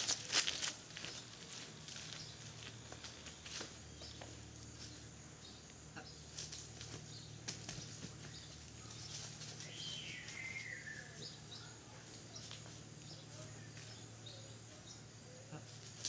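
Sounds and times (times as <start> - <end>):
footsteps on dry leaves: 0.0 - 5.2, 6.2 - 14.6.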